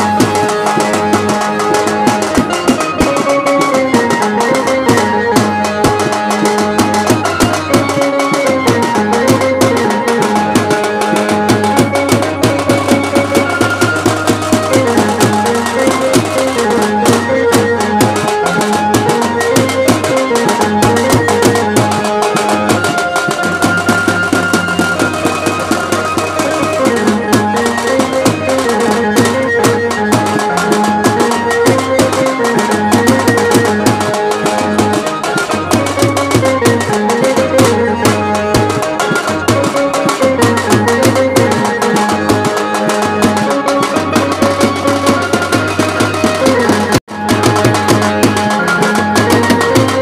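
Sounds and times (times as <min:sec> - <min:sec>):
side drum beaten fast: 0:00.0 - 0:50.0.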